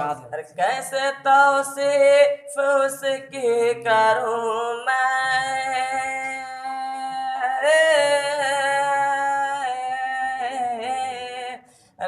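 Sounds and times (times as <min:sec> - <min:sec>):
person singing unaccompanied: 0:00.0 - 0:11.6.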